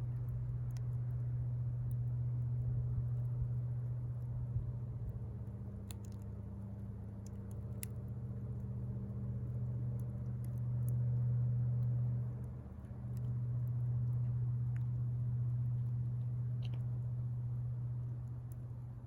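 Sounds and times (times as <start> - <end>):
burning wood crackling: 0.0 - 19.0
low mechanical hum: 0.0 - 19.0.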